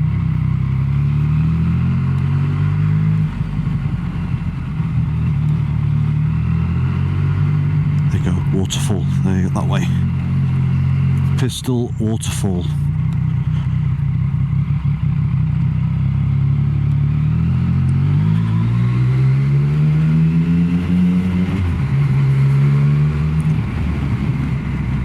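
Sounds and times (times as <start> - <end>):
motorcycle engine running: 0.0 - 19.7, 20.4 - 25.0.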